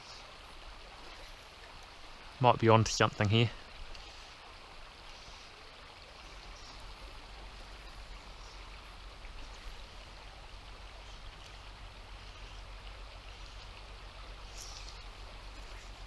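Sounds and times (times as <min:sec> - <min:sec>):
river water flowing over a riffle: 0:00.0 - 0:16.0.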